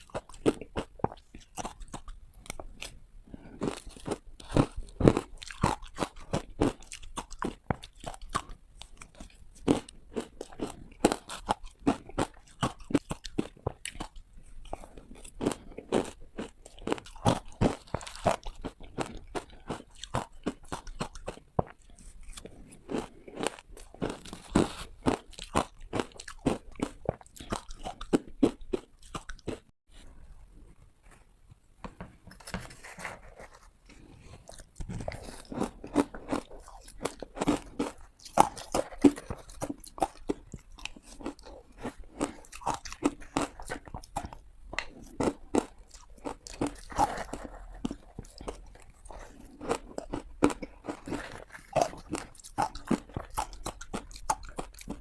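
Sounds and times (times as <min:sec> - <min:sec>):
ice being chewed: 0:00.0 - 0:29.7, 0:32.3 - 0:55.0.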